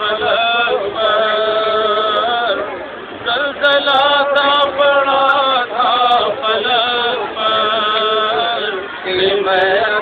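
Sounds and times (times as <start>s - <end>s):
men chanting a lament: 0.0s - 10.0s.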